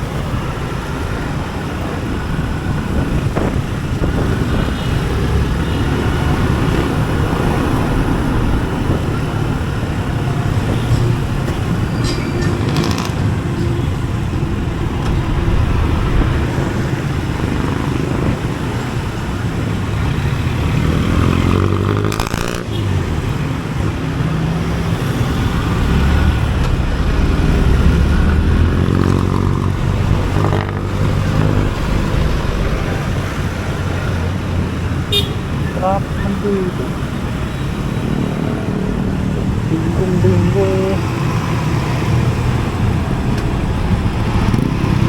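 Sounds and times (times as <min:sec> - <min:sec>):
motorcycle engine revving: 0:00.0 - 0:45.0
road and traffic noise: 0:00.0 - 0:45.0.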